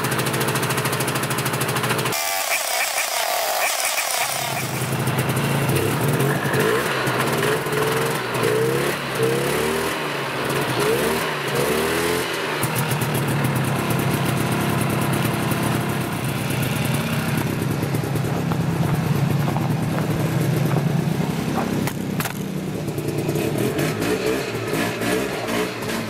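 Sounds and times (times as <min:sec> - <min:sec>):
snowmobile engine idling and revving: 0:00.0 - 0:26.0.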